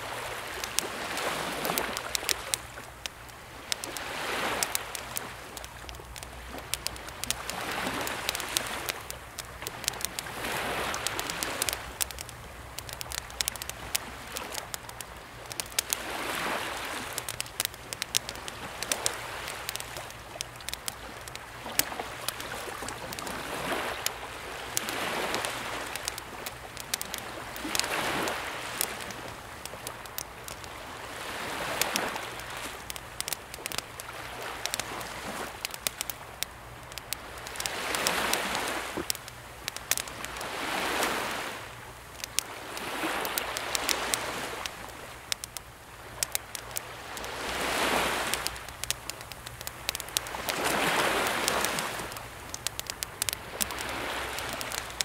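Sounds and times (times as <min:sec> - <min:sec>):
campfire crackling and popping: 0:00.0 - 0:55.0
sea waves washing ashore: 0:00.0 - 0:55.0.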